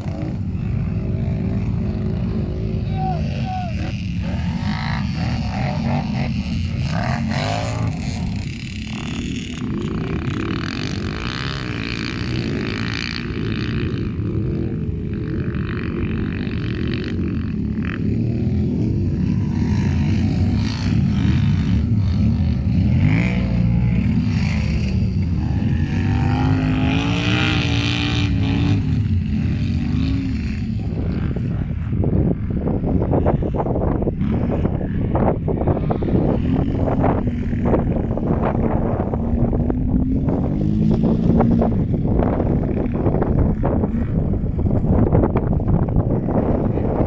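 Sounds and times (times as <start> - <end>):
atv engines revving: 0.0 - 47.0.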